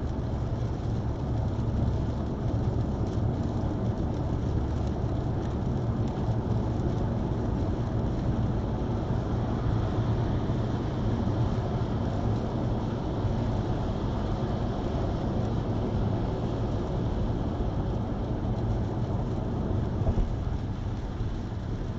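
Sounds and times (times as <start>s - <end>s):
car road and engine noise: 0.0s - 21.9s.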